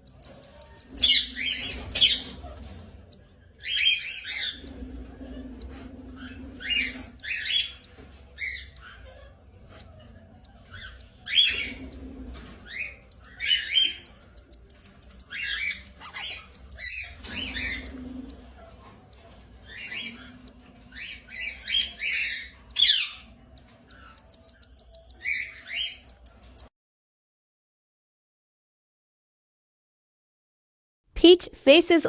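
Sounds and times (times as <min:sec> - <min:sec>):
lovebirds chirping and squawking: 0:00.0 - 0:26.7.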